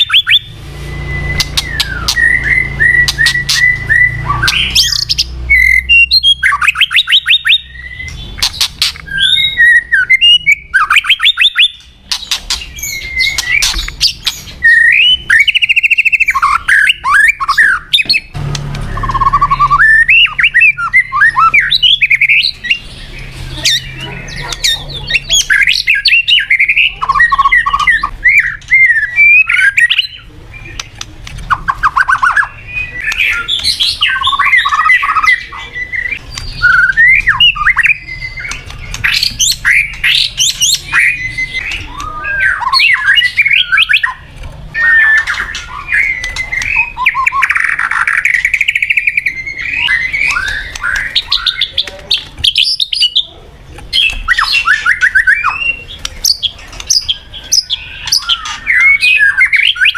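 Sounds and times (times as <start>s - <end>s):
bird singing whistles and trills: 0.0s - 53.3s, 53.9s - 59.9s.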